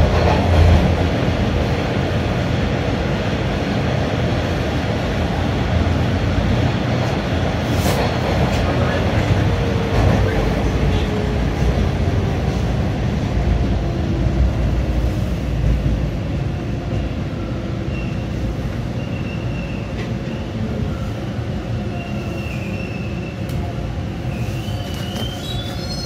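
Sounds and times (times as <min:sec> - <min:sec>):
subway train rumble: 0:00.0 - 0:26.0.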